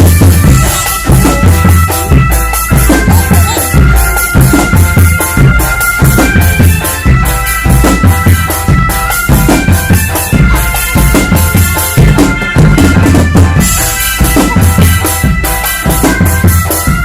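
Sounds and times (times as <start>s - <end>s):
drum band playing: 0.0s - 17.0s
melody over drums: 0.0s - 17.0s.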